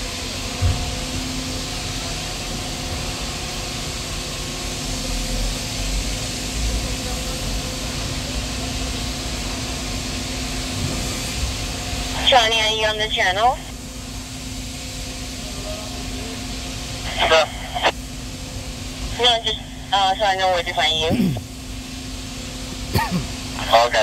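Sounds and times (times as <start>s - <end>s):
construction machinery engines: 0.0s - 13.8s, 15.3s - 18.2s, 19.0s - 21.6s, 22.6s - 24.0s
hiss of site noise: 3.8s - 24.0s.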